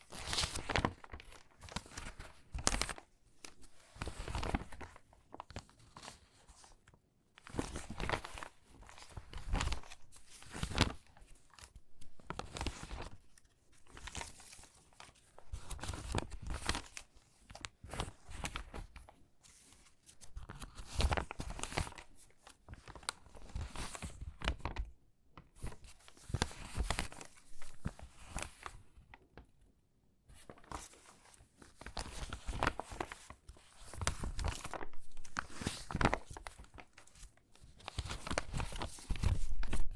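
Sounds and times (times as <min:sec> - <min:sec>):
magazine pages crackling: 0:00.1 - 0:06.7, 0:07.5 - 0:24.9, 0:25.5 - 0:29.2, 0:30.3 - 0:39.9.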